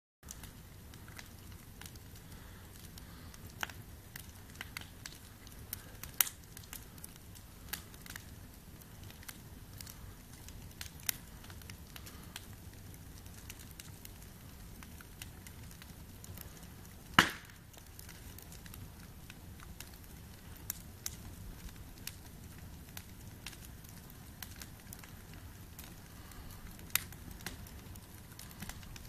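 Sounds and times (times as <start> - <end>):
campfire crackling: 0.2 - 29.0
sharp pops of fire: 0.3 - 29.0.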